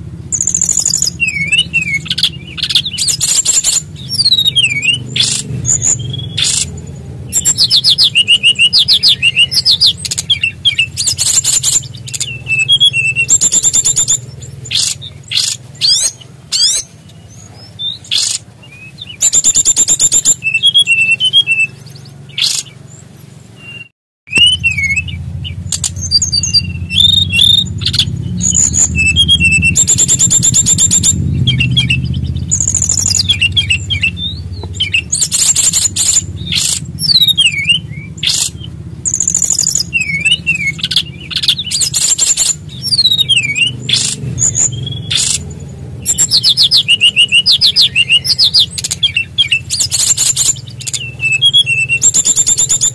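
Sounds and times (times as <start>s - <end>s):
low steady hum: 0.0s - 52.9s
bird singing trills and whistles: 0.2s - 52.9s.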